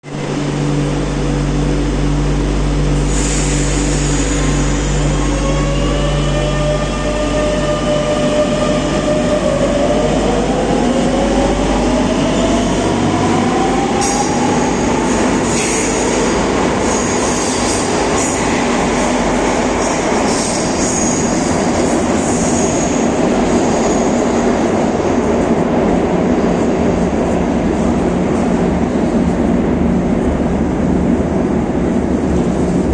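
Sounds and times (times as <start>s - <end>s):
metro train rumbling: 0.0s - 32.9s.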